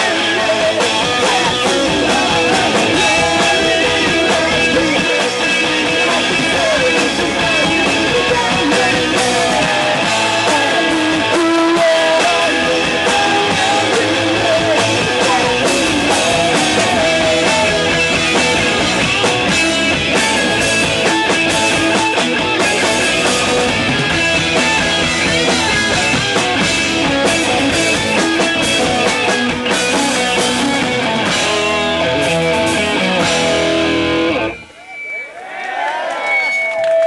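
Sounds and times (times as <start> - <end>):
loud rock music: 0.0 - 35.1.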